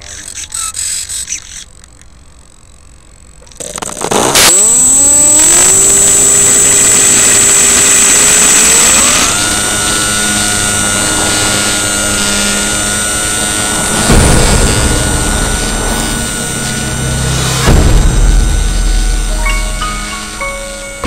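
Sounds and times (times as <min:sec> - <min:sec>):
model plane motor and propeller: 0:00.0 - 0:19.4.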